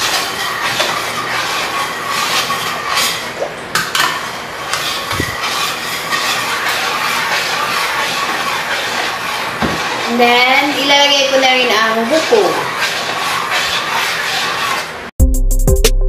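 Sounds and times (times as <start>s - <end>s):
metal spoon scraping pot: 0.0s - 15.1s.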